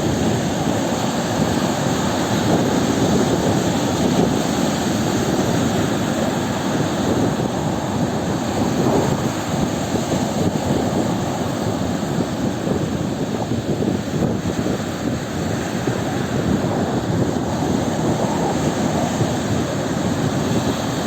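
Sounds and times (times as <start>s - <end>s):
sea waves surging: 0.0s - 21.0s.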